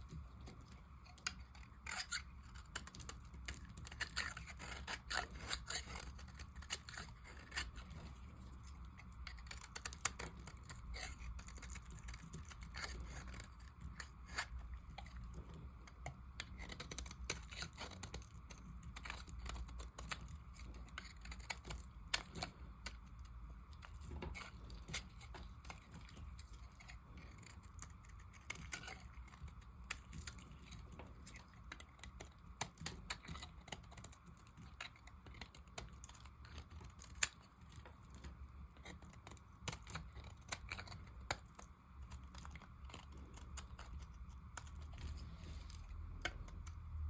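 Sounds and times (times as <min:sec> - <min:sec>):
knife cutting dry soap: 0:00.0 - 0:47.0
low steady hum: 0:00.0 - 0:47.0.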